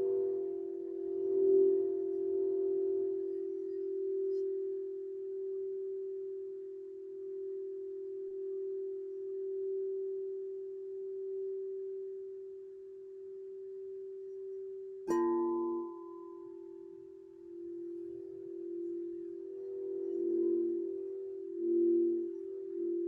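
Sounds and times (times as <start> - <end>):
singing bowl tone: 0.0 - 23.0.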